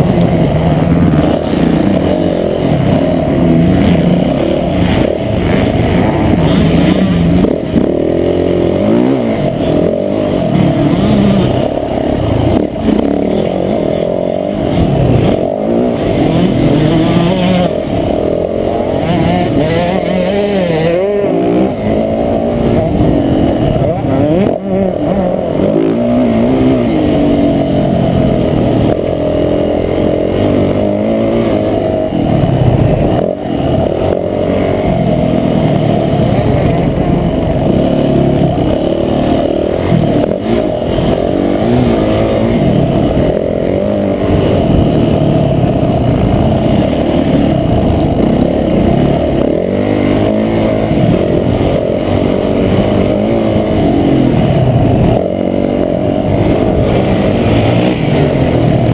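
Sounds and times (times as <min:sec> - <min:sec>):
motocross bike engine revving: 0:00.0 - 0:58.9.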